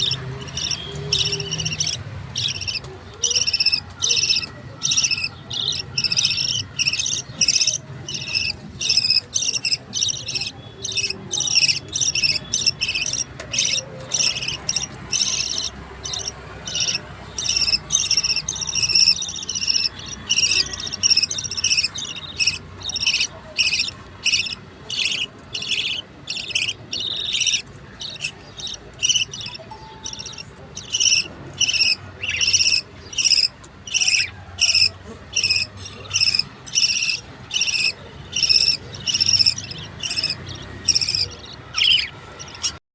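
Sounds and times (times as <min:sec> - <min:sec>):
budgerigar chicks chirping: 0:00.0 - 0:42.8.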